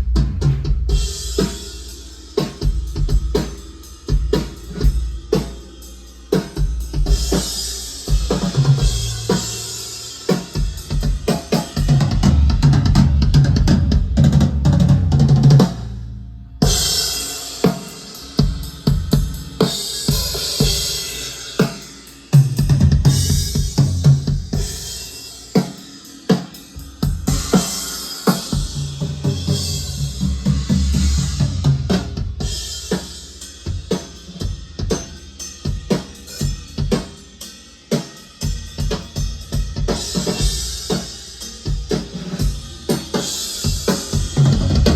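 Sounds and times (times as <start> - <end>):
drum kit groove: 0.0 - 44.9.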